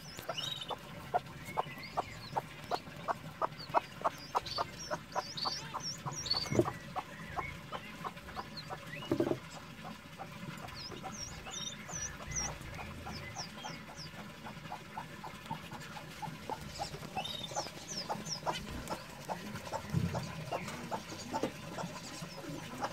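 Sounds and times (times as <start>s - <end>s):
chicks peeping: 0.0s - 22.9s
hen clucking softly: 0.0s - 22.9s.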